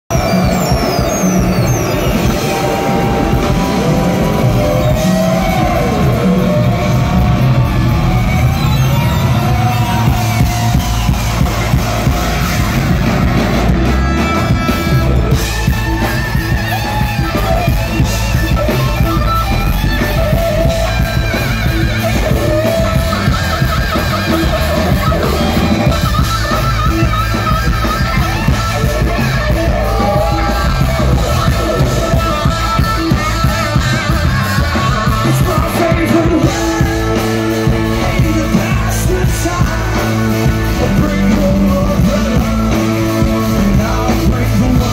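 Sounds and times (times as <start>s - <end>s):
rock band playing live: 0.1s - 44.9s.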